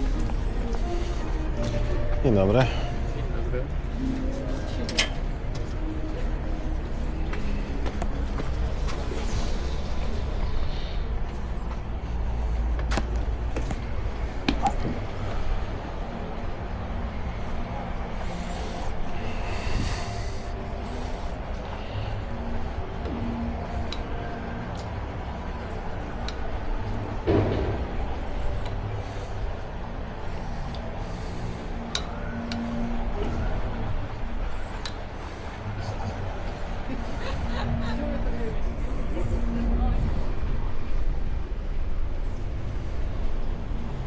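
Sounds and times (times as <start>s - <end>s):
boat ride rumble: 0.0s - 44.0s.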